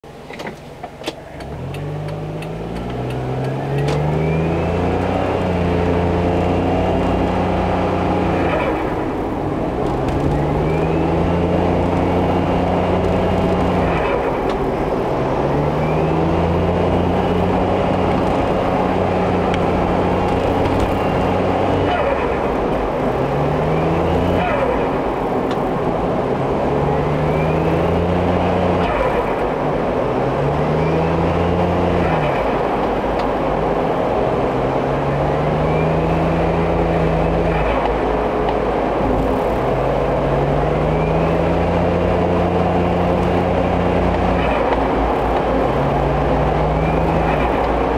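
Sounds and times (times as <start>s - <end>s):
high turbo whine: 0.1s - 47.9s
turbocharged engine accelerating: 0.9s - 47.9s.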